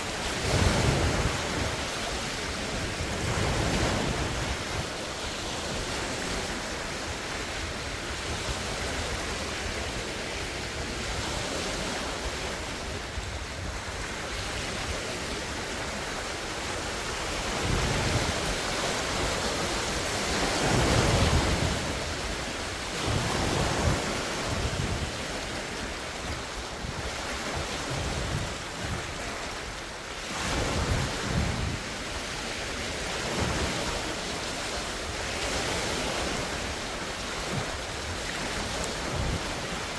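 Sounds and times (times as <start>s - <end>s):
lake waves breaking ashore: 0.0s - 39.9s
wind buffeting microphone: 0.0s - 39.9s.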